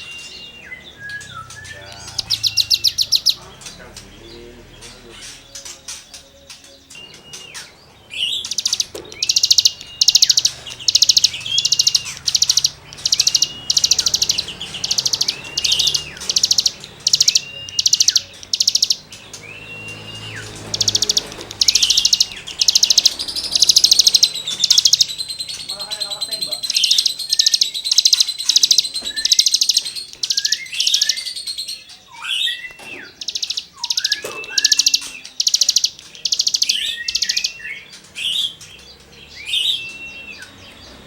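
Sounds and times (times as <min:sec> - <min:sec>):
songbird singing rasping song: 0:00.0 - 0:41.0.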